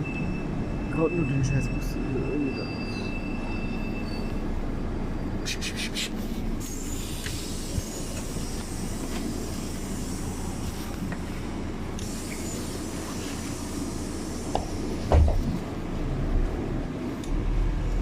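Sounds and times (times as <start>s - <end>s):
bus rumbling: 0.0s - 18.0s.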